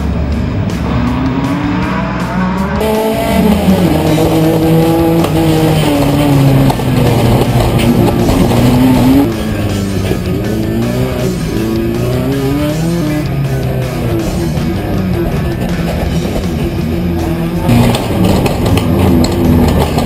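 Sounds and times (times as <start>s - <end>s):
other race car engines: 0.0s - 20.0s
race car engine upshifting: 0.1s - 20.0s.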